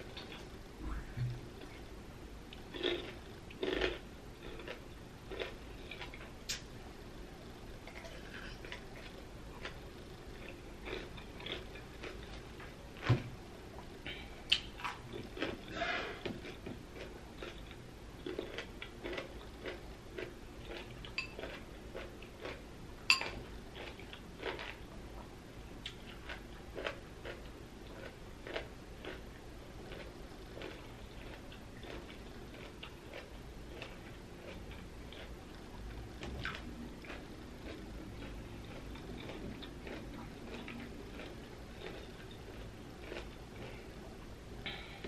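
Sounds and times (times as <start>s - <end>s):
crunchy chewing: 2.5s - 6.7s, 7.8s - 13.1s, 13.7s - 45.0s.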